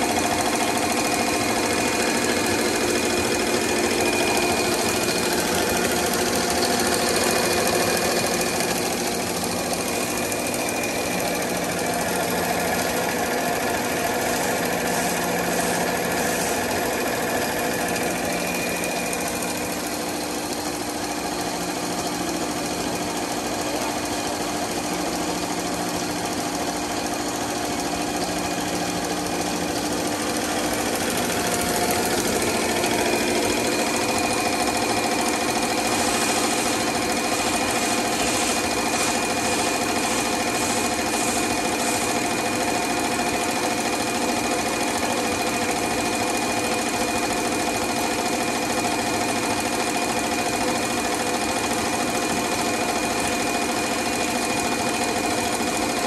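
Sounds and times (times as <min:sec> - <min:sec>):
fast mechanical clatter of machine: 0:00.0 - 0:56.0.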